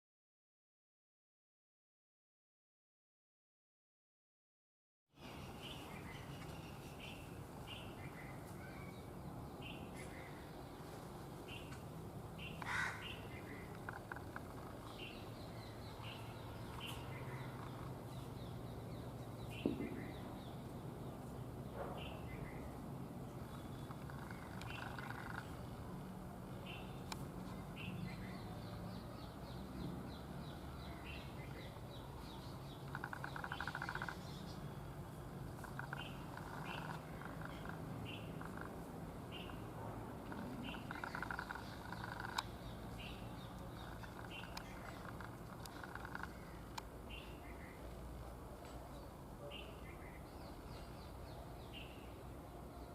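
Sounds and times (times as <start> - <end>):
small birds chirping: 5.2 - 52.9.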